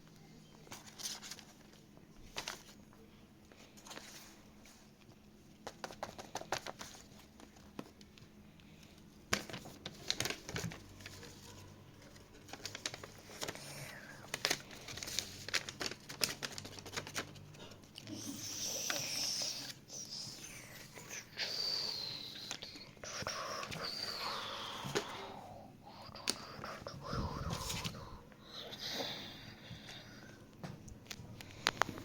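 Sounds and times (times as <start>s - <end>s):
crinkling handling noises: 0.0s - 28.4s, 29.3s - 32.0s.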